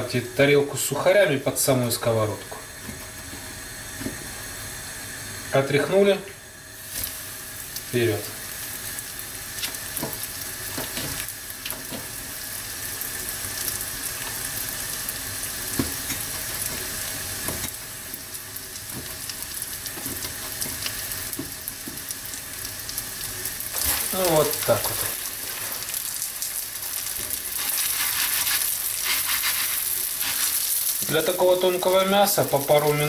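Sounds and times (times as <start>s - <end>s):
meat sizzling in frying pan: 6.4s - 33.0s.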